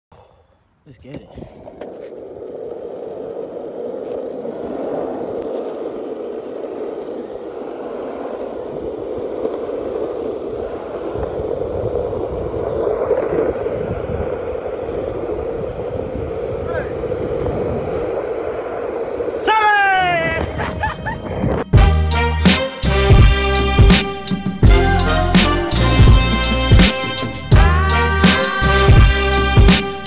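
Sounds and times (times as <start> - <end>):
skateboard wheels rolling on asphalt: 1.1 - 30.0.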